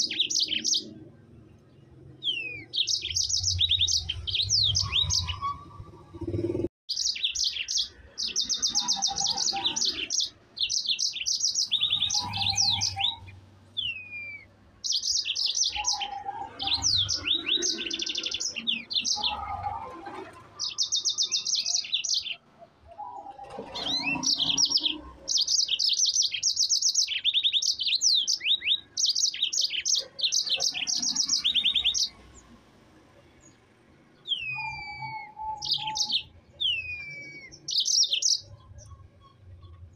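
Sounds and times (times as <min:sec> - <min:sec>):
canary singing trills: 0:00.0 - 0:32.6, 0:33.2 - 0:39.9.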